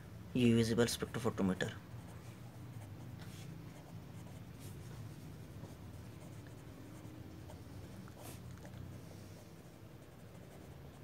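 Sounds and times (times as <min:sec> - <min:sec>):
low steady hum: 0:00.0 - 0:11.0
pen scratching on paper: 0:02.0 - 0:11.0.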